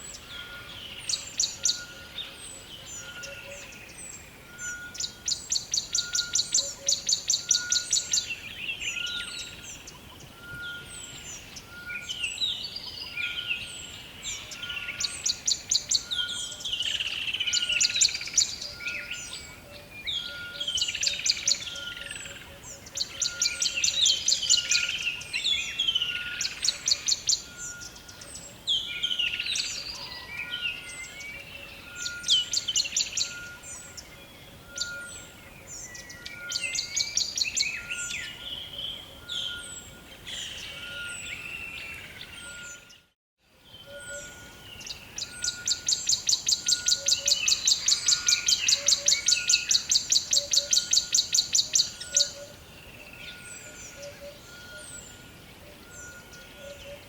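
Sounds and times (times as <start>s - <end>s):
birds calling and singing: 0.0s - 57.0s.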